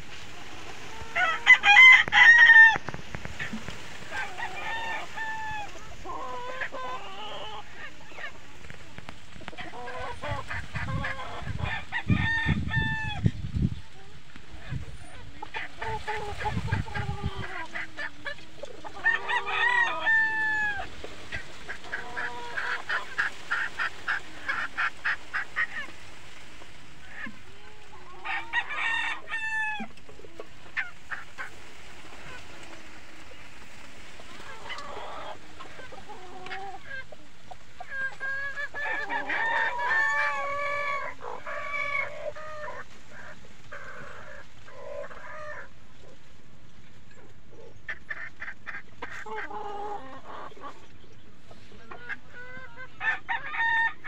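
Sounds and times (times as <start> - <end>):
roosters crowing: 0.0 - 8.4, 9.0 - 13.4, 15.5 - 37.2, 37.8 - 45.7, 52.4 - 54.0
chicken clucks: 0.0 - 54.0.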